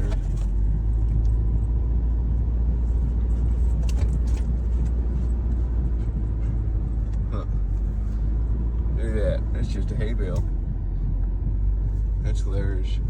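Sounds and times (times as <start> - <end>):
car rumble from inside cabin: 0.0 - 13.0.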